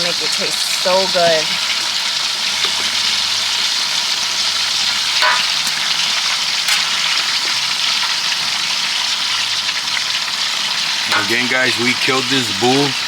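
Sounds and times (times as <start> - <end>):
beef sizzling in a pot: 0.0 - 13.0.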